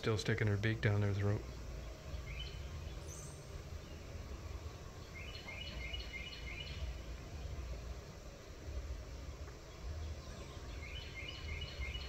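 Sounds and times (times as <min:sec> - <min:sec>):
bird chirping: 0:00.0 - 0:12.0
low outdoor rumble: 0:00.0 - 0:12.0.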